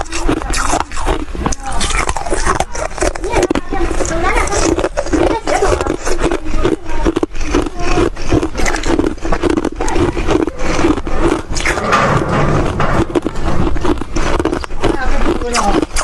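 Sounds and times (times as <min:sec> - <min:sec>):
chewing crunchy frost: 0:00.0 - 0:16.0.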